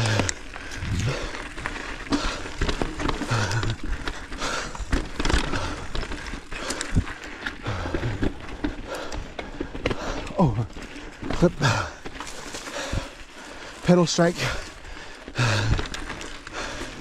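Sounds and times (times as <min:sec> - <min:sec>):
bike knocking and rattling: 0:00.0 - 0:17.0
tyres crunching on dirt and stones: 0:00.0 - 0:17.0.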